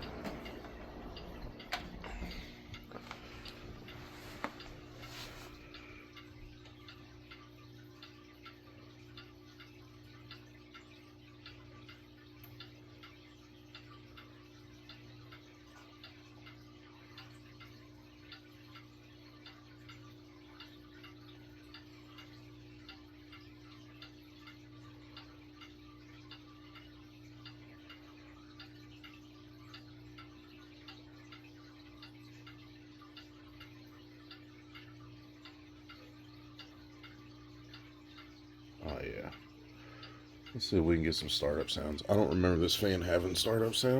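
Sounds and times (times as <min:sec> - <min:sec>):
box fan humming with ticking: 0:00.0 - 0:43.9.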